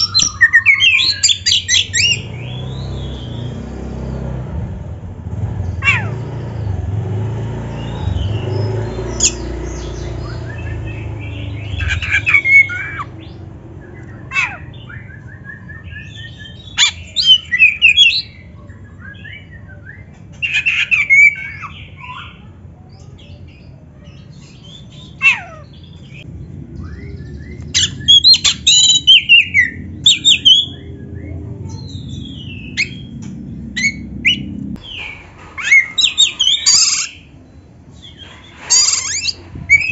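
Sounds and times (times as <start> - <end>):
bird singing: 0.0 - 4.4, 5.3 - 39.9.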